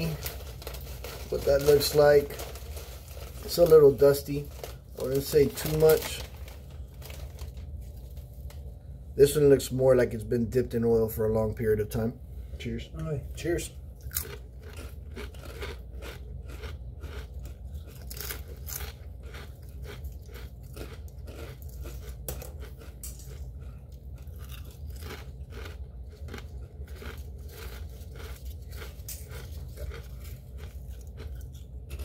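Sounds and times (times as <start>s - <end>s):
potato chips crunching: 0.0s - 8.7s, 13.4s - 32.0s
steady low hum: 0.0s - 32.0s.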